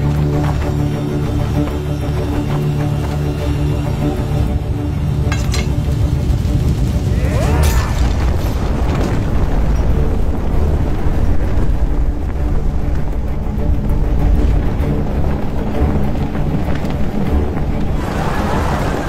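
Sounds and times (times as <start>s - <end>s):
dramatic music: 0.0s - 19.0s.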